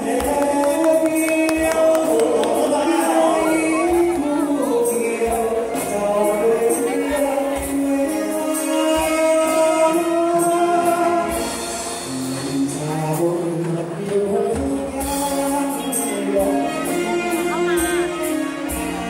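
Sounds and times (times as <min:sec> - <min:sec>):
men singing: 0:00.0 - 0:17.6
band with keyboard drums and bass: 0:00.0 - 0:19.0.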